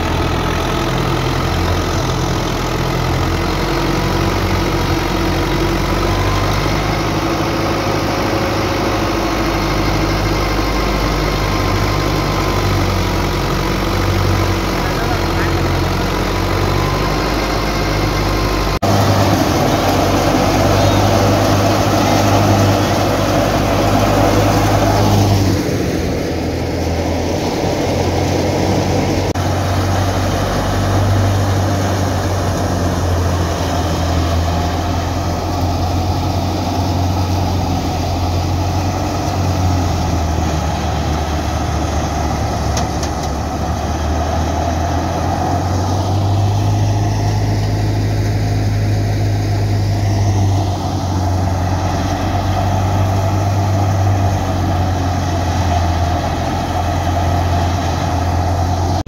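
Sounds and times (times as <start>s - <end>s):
tractor diesel engine running: 0.0s - 59.0s
thresher drum and fan whirring: 3.5s - 59.0s.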